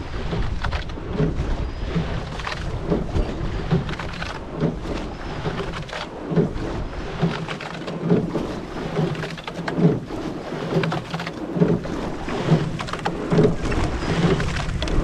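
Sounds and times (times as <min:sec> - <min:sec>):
constant low rumble: 0:00.0 - 0:15.0
oar blades splashing water: 0:00.0 - 0:15.0
oars knocking in oarlocks: 0:00.0 - 0:15.0.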